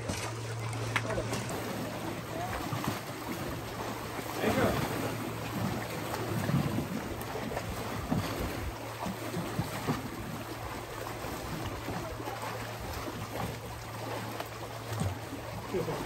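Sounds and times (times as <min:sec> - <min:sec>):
lake water lapping against rock: 0:00.0 - 0:16.0
small water splashes: 0:00.0 - 0:16.0.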